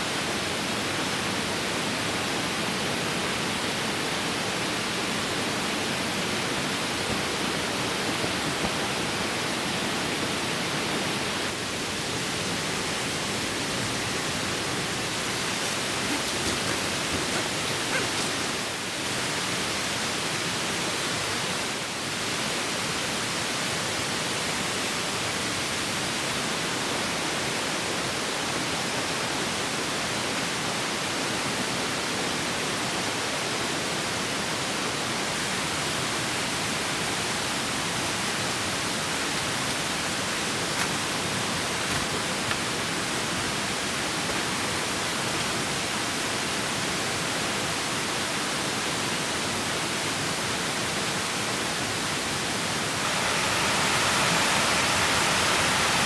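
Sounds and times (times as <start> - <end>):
stream flowing over rocks: 0.1 - 26.0, 35.3 - 56.0.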